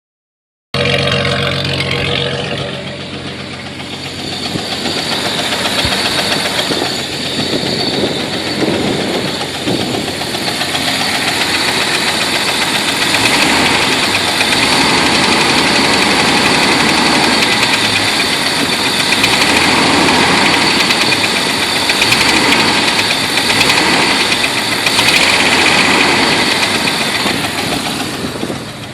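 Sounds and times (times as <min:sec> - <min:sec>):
loud engine with straight exhaust: 0:00.7 - 0:28.9
engine knocking: 0:00.8 - 0:28.9.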